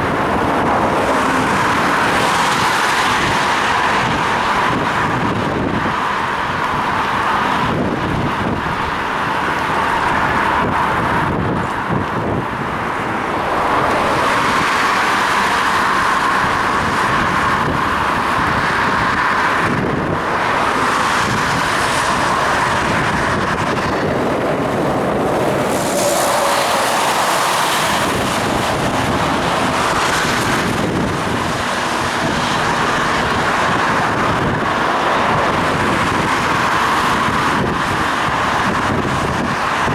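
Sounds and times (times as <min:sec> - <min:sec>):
road traffic rumble and hiss: 0:00.0 - 0:39.9
wind noise on microphone: 0:00.0 - 0:39.9.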